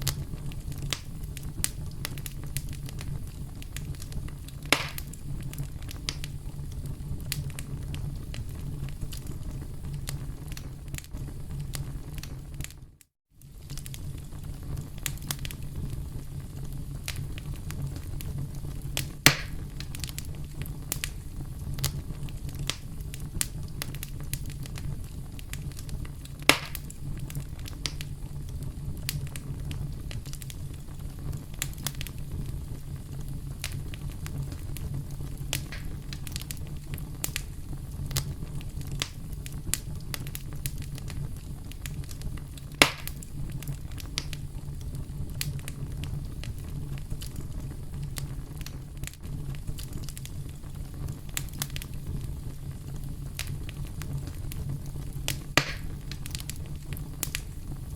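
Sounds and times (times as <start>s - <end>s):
campfire crackling: 0.0s - 57.9s
fire popping: 0.0s - 57.9s.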